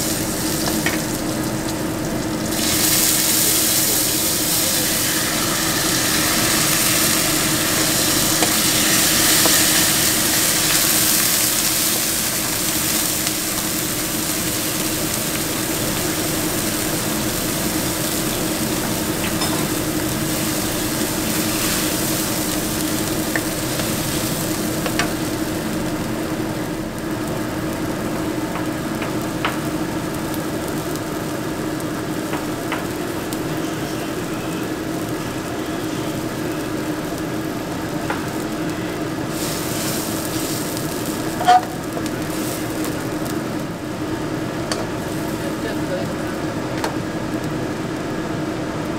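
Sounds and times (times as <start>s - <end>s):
liquid boiling: 0.0s - 48.9s
steady hum: 0.0s - 48.9s
vegetables sizzling in a wok: 0.0s - 48.9s.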